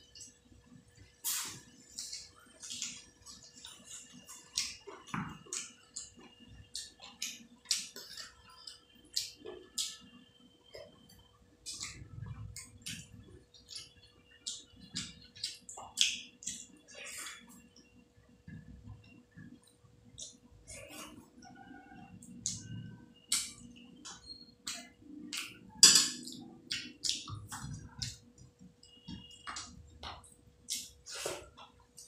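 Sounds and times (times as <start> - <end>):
wet chewing and lip-smacking: 1.1 - 11.0, 11.6 - 17.9, 18.5 - 32.0.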